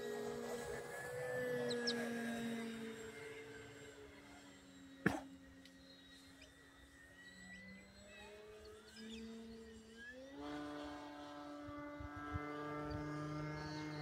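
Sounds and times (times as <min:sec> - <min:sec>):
distant drone of model plane motors: 0:00.0 - 0:14.0.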